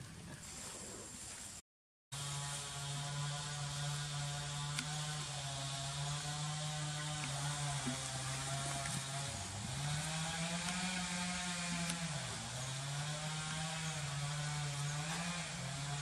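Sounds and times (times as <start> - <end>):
small engine running: 2.2 - 16.0.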